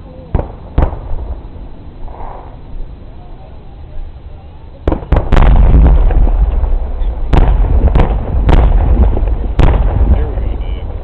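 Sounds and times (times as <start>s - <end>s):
low rumble of explosions: 0.0s - 11.0s.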